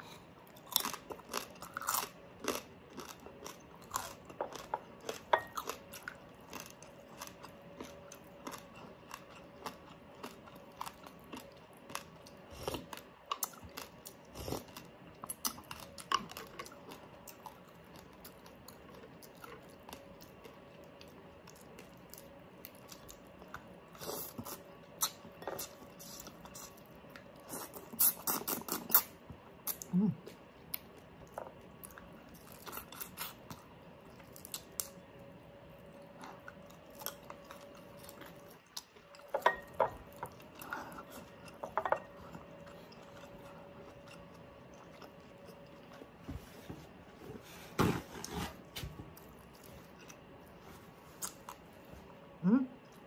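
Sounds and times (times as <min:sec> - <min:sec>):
person chewing shrimp: 0:00.0 - 0:35.1, 0:35.9 - 0:46.2, 0:51.2 - 0:51.8.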